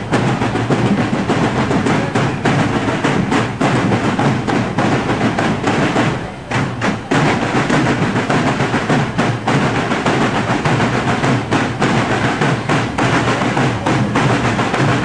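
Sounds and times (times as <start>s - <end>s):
snare and bass drums marching beat: 0.0s - 15.0s.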